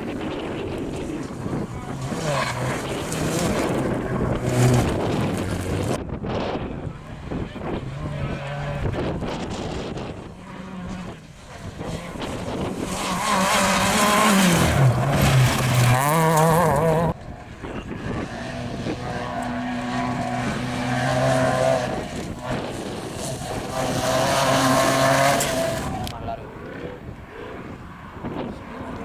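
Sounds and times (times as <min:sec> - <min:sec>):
vehicle engine running steadily: 0:00.0 - 0:26.2
rally car engine at full throttle: 0:00.0 - 0:29.0.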